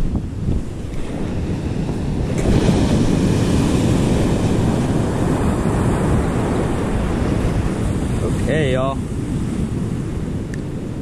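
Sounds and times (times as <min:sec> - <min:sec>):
ocean surf washing up sand: 0:00.0 - 0:11.0
wind buffeting microphone: 0:00.0 - 0:11.0.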